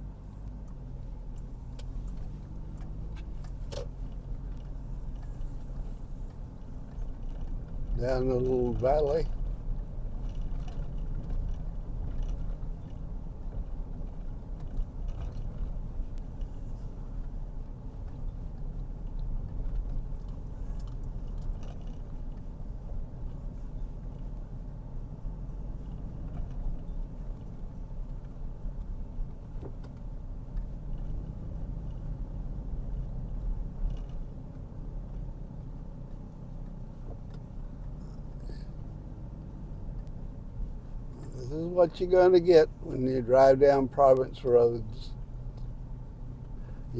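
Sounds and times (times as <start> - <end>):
car engine and tyres rumbling: 0.0 - 46.9
light clicks and rattles: 0.2 - 46.9.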